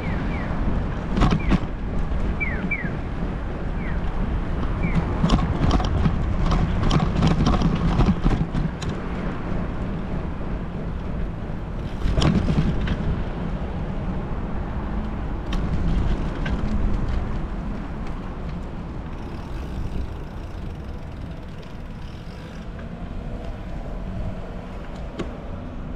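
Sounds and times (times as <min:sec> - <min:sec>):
wind buffeting microphone: 0:00.0 - 0:25.6.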